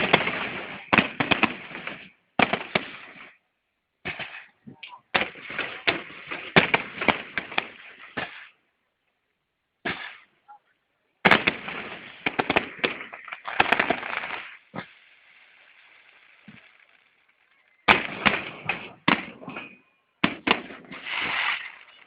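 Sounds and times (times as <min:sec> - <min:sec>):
fireworks bangs and crackles: 0:00.0 - 0:03.4, 0:04.0 - 0:08.6, 0:11.2 - 0:22.0.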